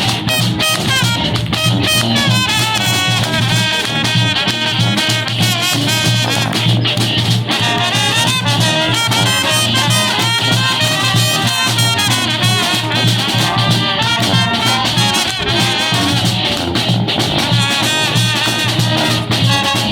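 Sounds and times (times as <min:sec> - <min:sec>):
brass band playing: 0:00.0 - 0:19.9.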